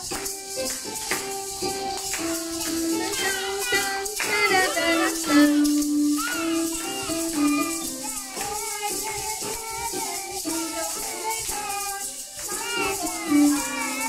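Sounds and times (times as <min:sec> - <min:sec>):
maracas rattling: 0:00.0 - 0:14.0.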